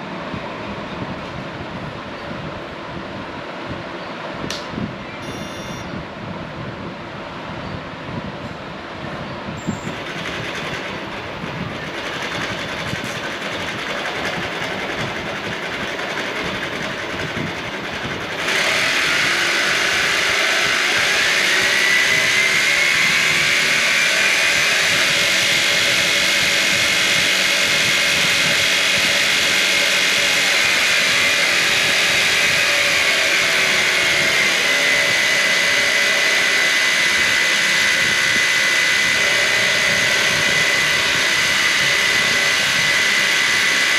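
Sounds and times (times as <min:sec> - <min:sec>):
high motor whine: 0:04.5 - 0:06.2, 0:09.5 - 0:43.9.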